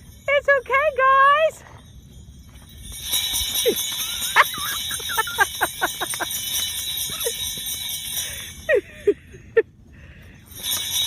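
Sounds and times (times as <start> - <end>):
sleigh bells jingling: 0.0 - 11.0.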